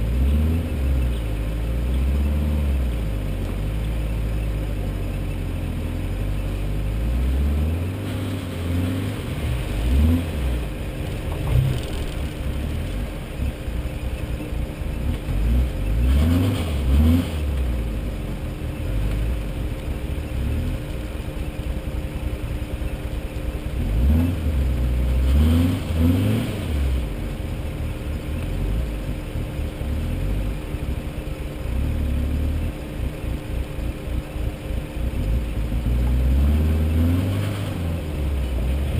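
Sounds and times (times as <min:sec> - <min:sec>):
off-road vehicle engine revving: 0:00.0 - 0:38.9.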